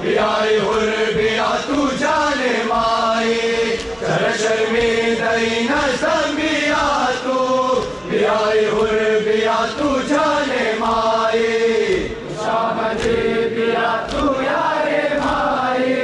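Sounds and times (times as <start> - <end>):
mourning lament chanted: 0.0 - 16.0.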